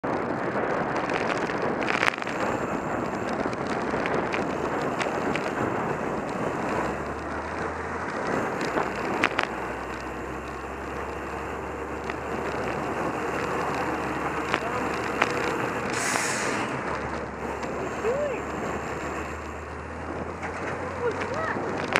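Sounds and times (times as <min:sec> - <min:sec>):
diesel truck engine rumble: 0:00.0 - 0:21.9
road noise from bicycle: 0:00.0 - 0:21.9
wind rush on microphone: 0:00.0 - 0:21.9
sharp clicks: 0:01.0 - 0:21.9.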